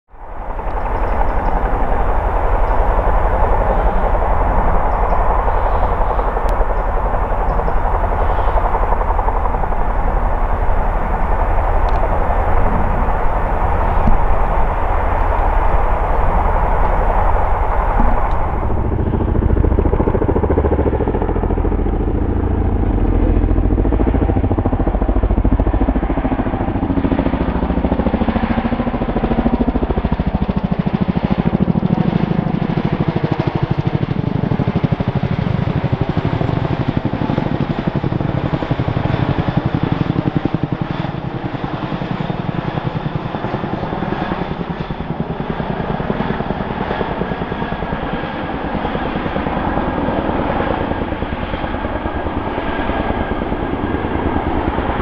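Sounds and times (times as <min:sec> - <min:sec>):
turbine whine: 0:00.1 - 0:30.0, 0:35.9 - 0:55.0
helicopter rotor blades beating: 0:00.1 - 0:55.0.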